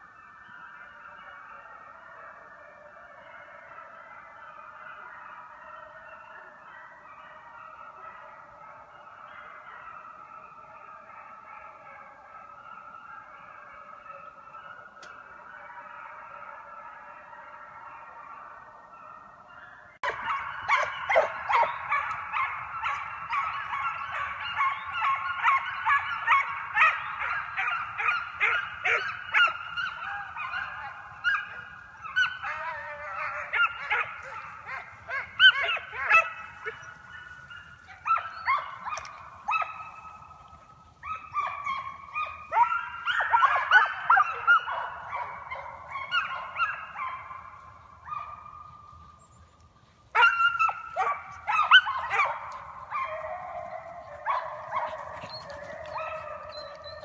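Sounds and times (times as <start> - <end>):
hounds baying: 0.0 - 57.0.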